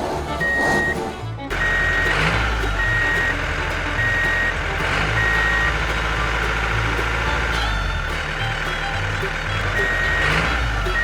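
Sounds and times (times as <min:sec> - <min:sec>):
low engine rumble: 0:00.0 - 0:11.0
truck reversing alarm beeping: 0:00.0 - 0:11.0.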